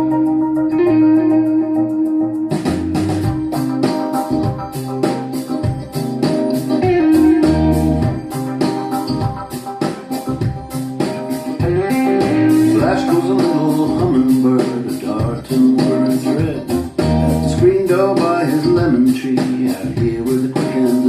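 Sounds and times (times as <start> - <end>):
guitar and organ notes: 0.0 - 21.0
percussion beat: 2.1 - 21.0.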